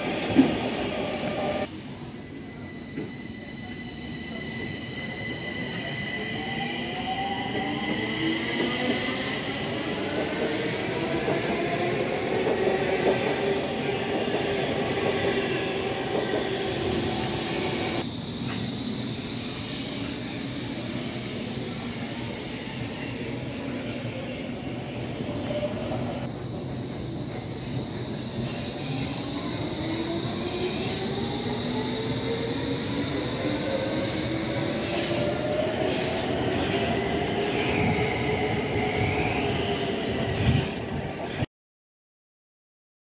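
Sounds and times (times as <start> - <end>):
metro train running: 0.0 - 41.4.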